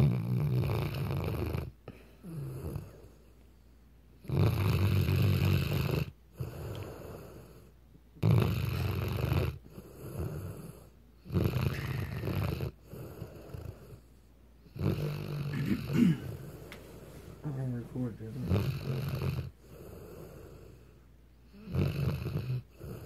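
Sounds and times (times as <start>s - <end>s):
dog snoring: 0.0s - 3.2s, 4.2s - 16.7s, 17.4s - 23.0s.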